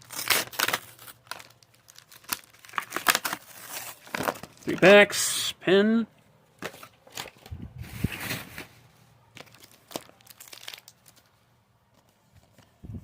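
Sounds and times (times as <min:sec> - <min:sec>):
packaging crinkling and rustling: 0:00.0 - 0:04.9, 0:06.6 - 0:12.8.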